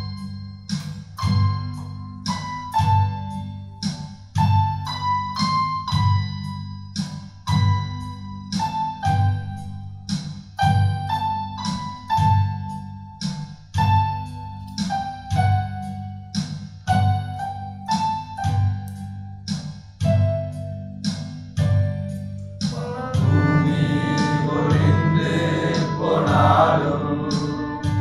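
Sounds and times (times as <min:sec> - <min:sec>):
slow piano music: 0:00.0 - 0:28.0.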